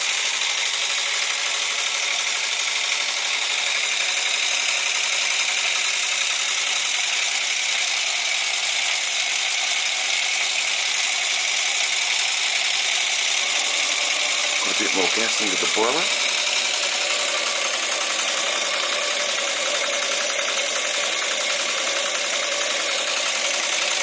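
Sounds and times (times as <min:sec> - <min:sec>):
model steam engine running: 0:00.0 - 0:24.0.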